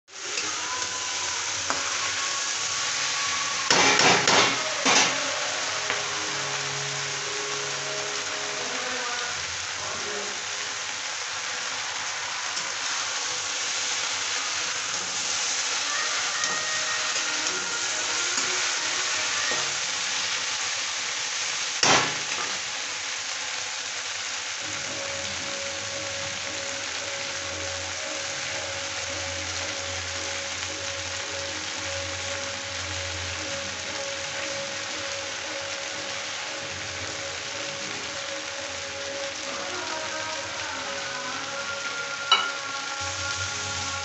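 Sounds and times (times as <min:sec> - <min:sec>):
vegetables sizzling in oil: 0:00.1 - 0:44.0.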